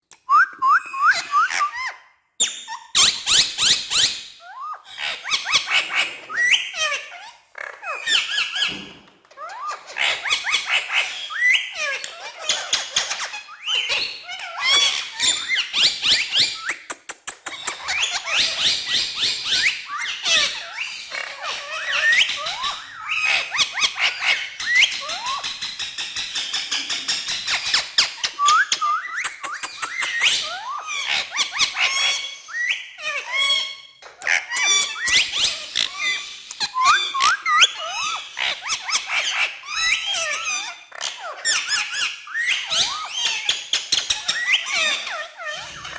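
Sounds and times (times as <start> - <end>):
parrot whistling and chirping: 0.2 - 8.8, 9.5 - 25.8, 27.2 - 45.9.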